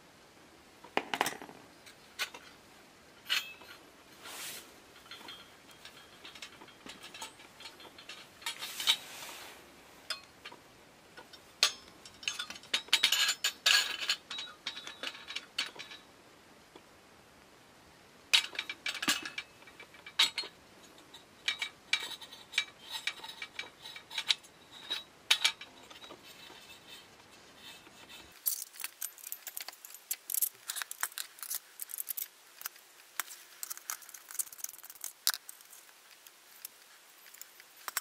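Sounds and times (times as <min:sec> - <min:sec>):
metal parts clicking and clinking: 0:00.9 - 0:02.6, 0:03.2 - 0:03.8, 0:05.0 - 0:09.0, 0:11.2 - 0:16.1, 0:18.4 - 0:38.0.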